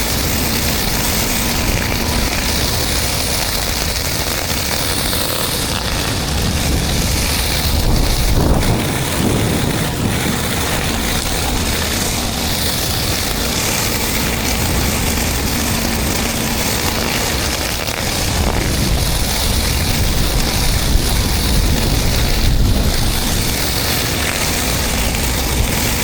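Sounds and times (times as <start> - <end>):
high-pressure water hiss: 0.0 - 26.0
pump engine hum: 0.0 - 26.0.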